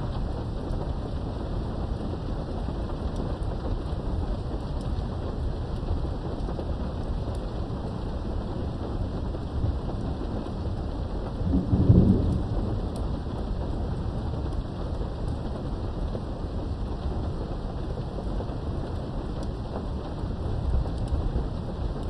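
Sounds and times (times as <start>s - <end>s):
low roll of thunder: 0.0s - 22.0s
steady rain: 0.0s - 22.0s.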